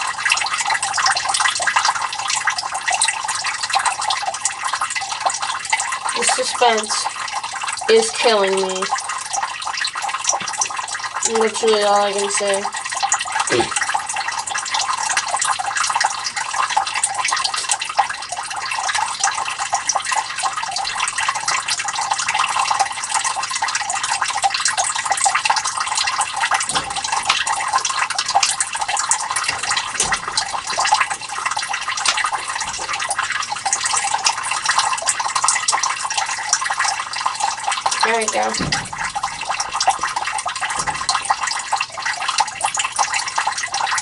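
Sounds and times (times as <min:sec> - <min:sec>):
fine dripping crackle: 0:00.0 - 0:44.0
water trickling and splashing: 0:00.0 - 0:44.0.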